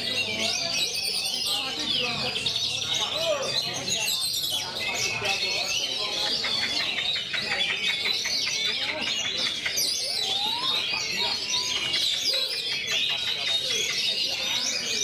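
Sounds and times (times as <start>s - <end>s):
bird singing whistles and trills: 0.0s - 15.0s.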